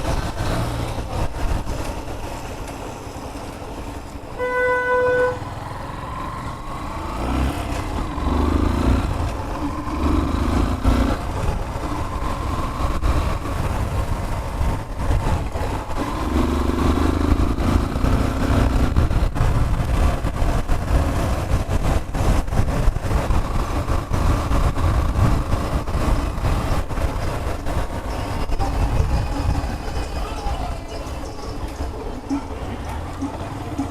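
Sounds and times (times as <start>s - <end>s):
motorcycle engine rumbling: 0.0s - 33.9s
wind buffeting microphone: 6.5s - 33.9s.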